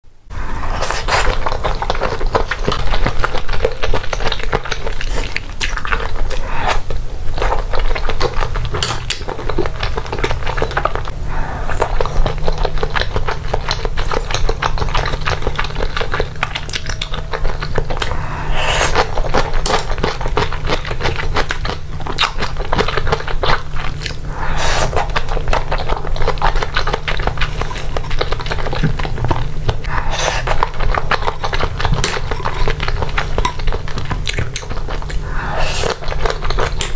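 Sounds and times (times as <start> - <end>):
person biting and chewing food: 0.6 - 36.9.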